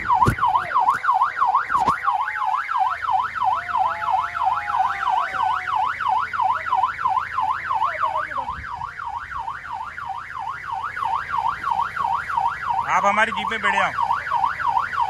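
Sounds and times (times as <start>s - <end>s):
electronic siren warbling: 0.0s - 15.0s.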